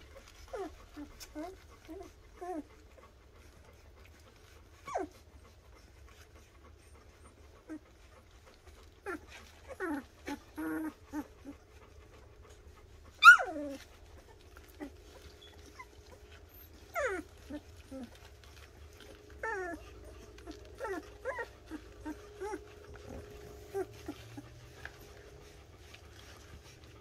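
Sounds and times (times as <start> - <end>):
puppies whimpering and squeaking: 0.0 - 27.0.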